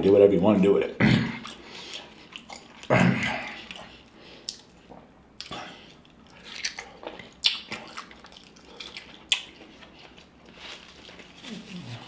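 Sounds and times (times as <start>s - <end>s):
wet chewing and lip-smacking: 1.4s - 11.4s.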